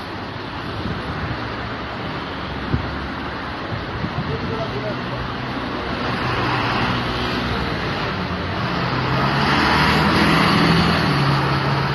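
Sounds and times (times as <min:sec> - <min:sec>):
street traffic noise: 0:00.0 - 0:11.9.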